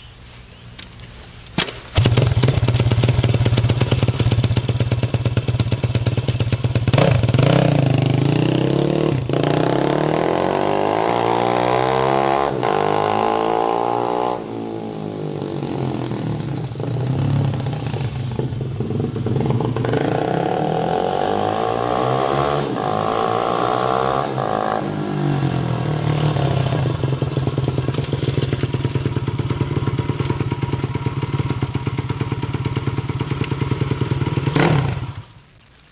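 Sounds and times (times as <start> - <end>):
motorcycle engine running: 2.0 - 35.2.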